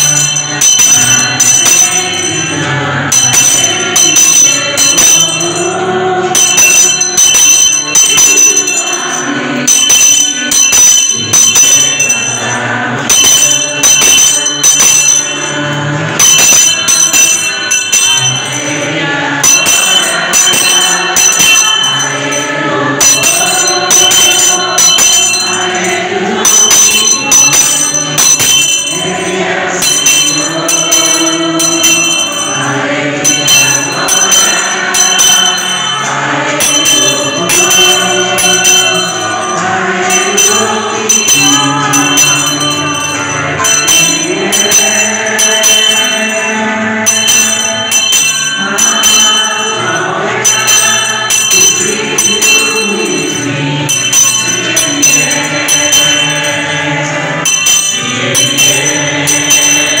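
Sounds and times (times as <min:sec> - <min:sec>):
congregation singing a hymn: 0:00.0 - 1:00.0
small handbell ringing: 0:00.0 - 1:00.0.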